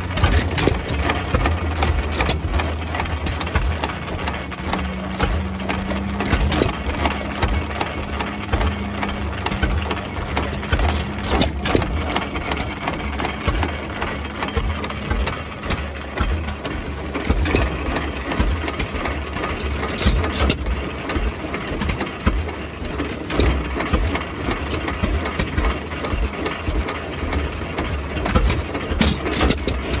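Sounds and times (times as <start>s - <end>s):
hit-and-miss engine firing: 0.0s - 30.0s.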